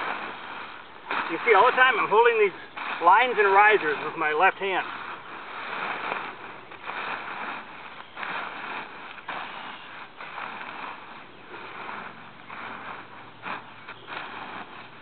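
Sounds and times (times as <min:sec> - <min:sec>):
nylon fabric rustling: 0:00.0 - 0:15.0.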